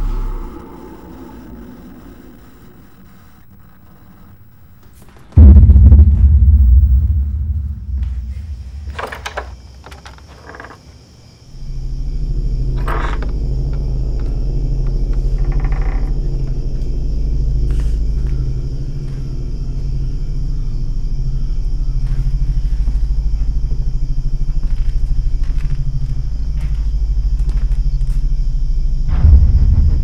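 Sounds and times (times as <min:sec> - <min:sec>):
ominous rumbling drone: 0:00.0 - 0:04.5, 0:05.4 - 0:09.7, 0:11.5 - 0:30.0.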